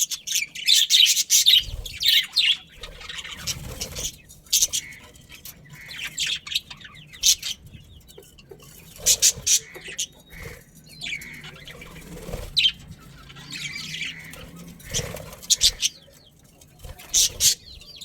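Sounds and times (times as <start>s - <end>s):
budgerigars chirping: 0.0s - 18.0s
warbling chatter of budgerigars: 0.0s - 18.0s.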